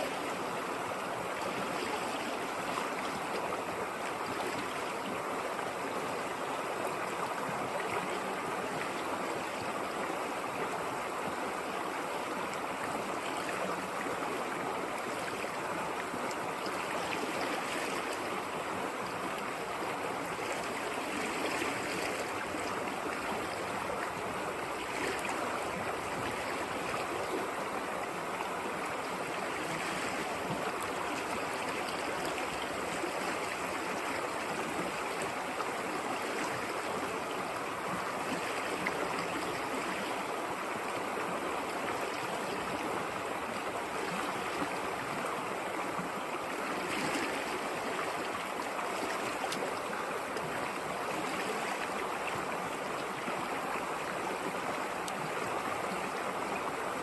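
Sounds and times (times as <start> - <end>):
river water babbling over stones: 0.0 - 57.0.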